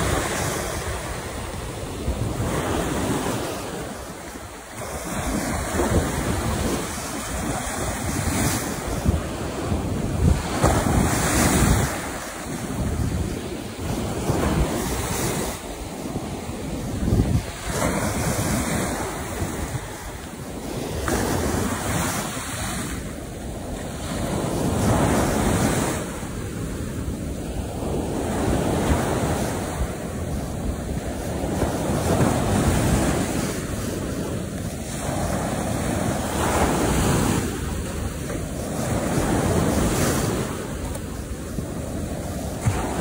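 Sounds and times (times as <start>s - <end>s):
ocean surf breaking: 0.0s - 43.0s.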